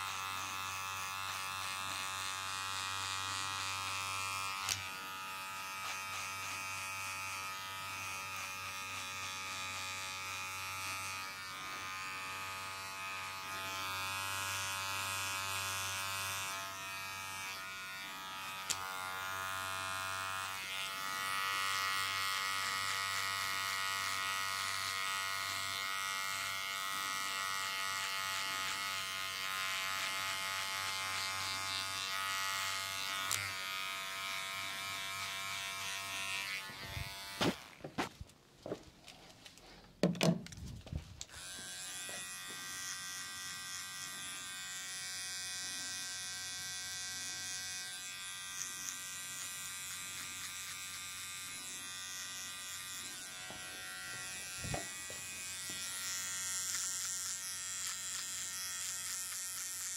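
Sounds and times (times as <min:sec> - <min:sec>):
electric clippers buzzing: 0:00.0 - 0:38.1, 0:41.2 - 0:59.9.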